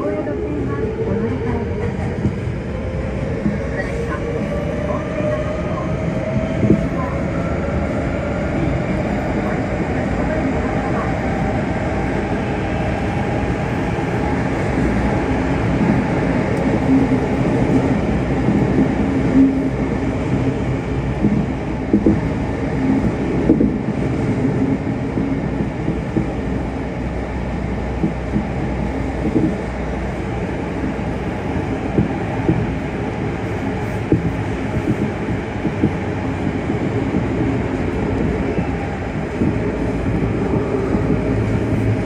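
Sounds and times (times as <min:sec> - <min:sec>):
subway train wheels rumbling: 0:00.0 - 0:42.0.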